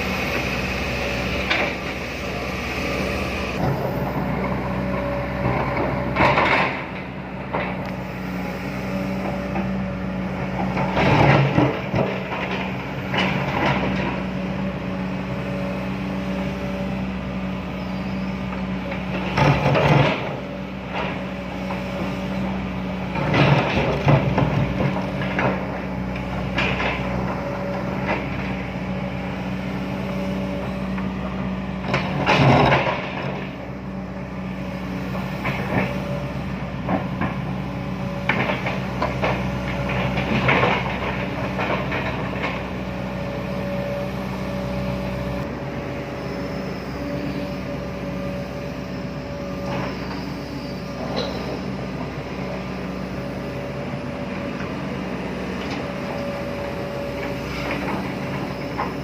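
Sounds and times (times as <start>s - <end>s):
diesel engine humming: 0.0s - 59.0s
excavator clanking and scraping: 0.0s - 59.0s.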